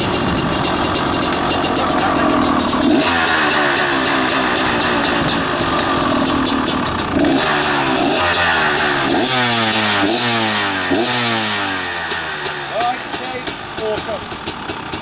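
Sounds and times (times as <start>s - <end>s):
engine throttle blips: 0.0s - 15.0s
two-stroke dirt bike engine: 0.0s - 15.0s.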